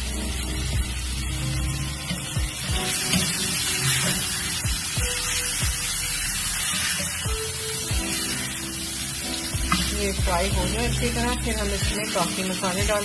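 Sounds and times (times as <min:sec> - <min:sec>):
background music with beat: 0:00.0 - 0:12.0
chicken sizzling in oil: 0:00.0 - 0:13.0.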